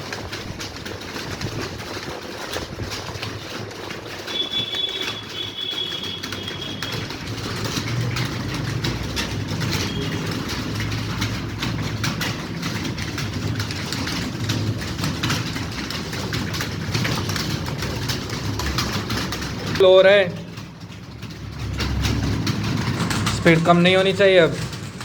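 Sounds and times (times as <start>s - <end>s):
keyboards typing clatter: 0.0s - 25.0s
low engine rumble: 4.1s - 25.0s.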